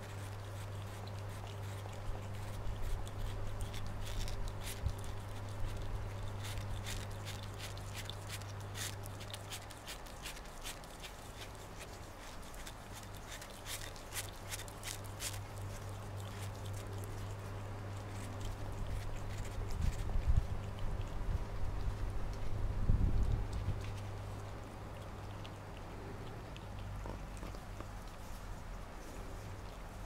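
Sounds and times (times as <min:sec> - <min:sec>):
cat chewing wet crunches: 0:00.0 - 0:30.0
steady low hum: 0:00.0 - 0:30.0.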